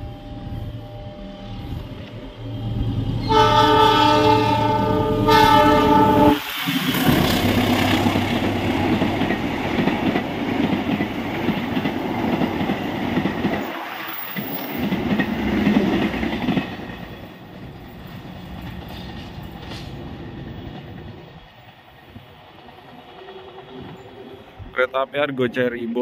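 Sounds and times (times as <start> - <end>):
train rolling past: 0.0 - 26.0
wheels rattling on rail: 0.5 - 26.0.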